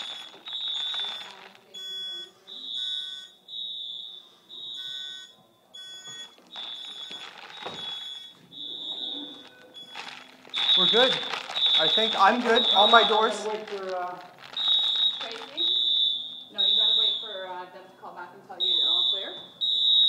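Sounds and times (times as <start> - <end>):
fire alarm beeping: 0.0 - 20.0.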